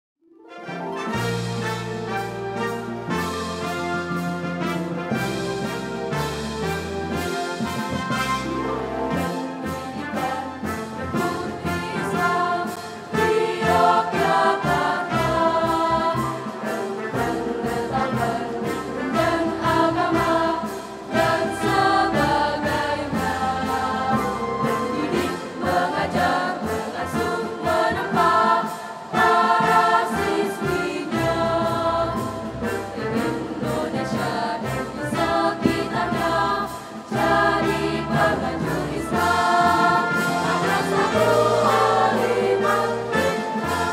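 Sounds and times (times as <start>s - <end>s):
instrumental accompaniment: 0.2s - 43.9s
girls' choir singing a march: 1.1s - 43.9s.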